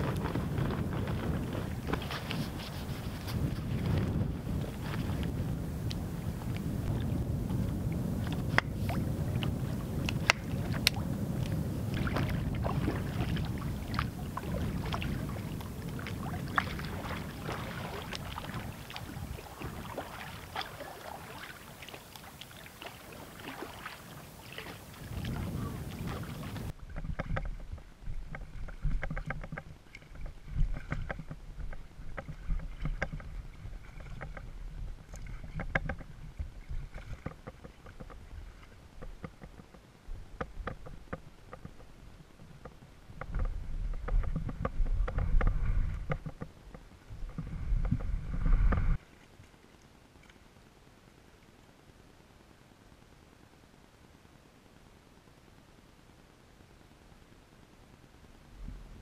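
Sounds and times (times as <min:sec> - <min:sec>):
wind noise on microphone: 0:00.0 - 0:49.0, 0:58.5 - 0:59.0
paddle strokes splashing water: 0:00.0 - 0:50.4.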